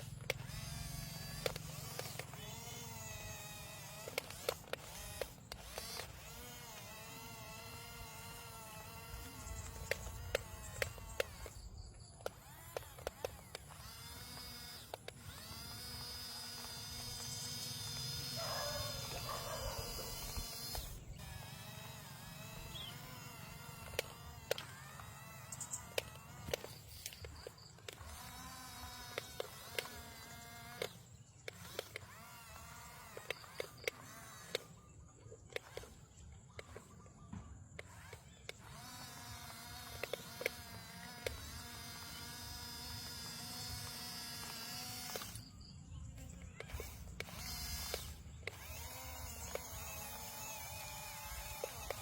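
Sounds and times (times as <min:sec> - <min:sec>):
small electric motors whining: 0:00.0 - 0:52.0.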